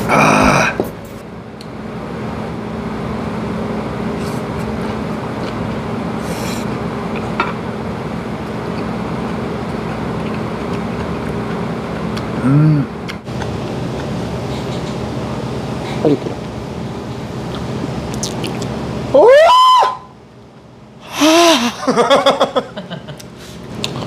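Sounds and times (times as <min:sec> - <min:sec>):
kitchen machinery hum: 0:00.0 - 0:24.0.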